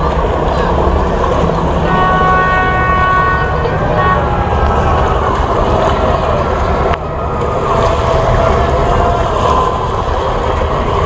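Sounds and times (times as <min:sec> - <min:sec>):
boat engines running: 0:00.0 - 0:11.0
wind rumbling on microphone: 0:00.0 - 0:11.0.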